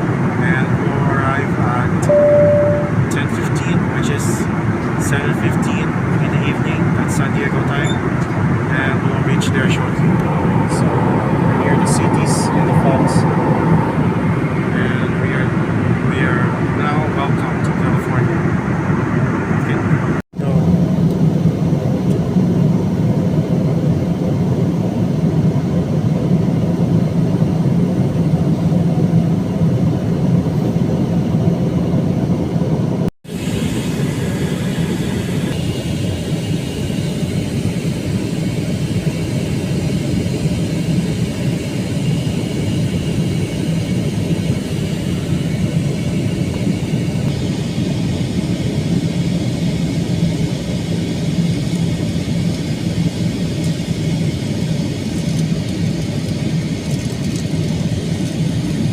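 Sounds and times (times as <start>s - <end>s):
airliner cabin roar: 0.0s - 58.9s.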